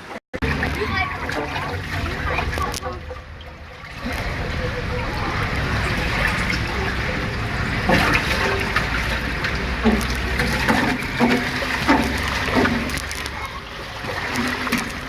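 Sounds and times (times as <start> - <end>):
water rushing and splashing: 0.0 - 15.0
voices: 0.4 - 15.0.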